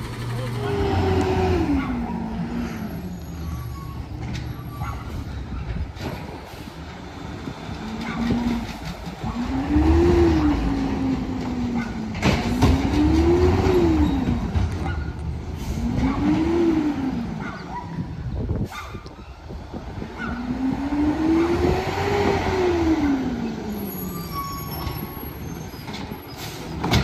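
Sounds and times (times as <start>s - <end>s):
garbage truck engine revving: 0.0s - 4.4s, 6.1s - 17.4s, 20.0s - 27.0s.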